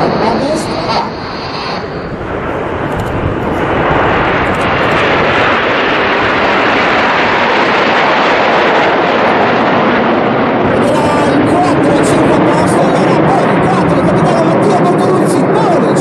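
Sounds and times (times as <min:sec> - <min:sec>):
jet engines overhead rushing: 0:00.0 - 0:16.0.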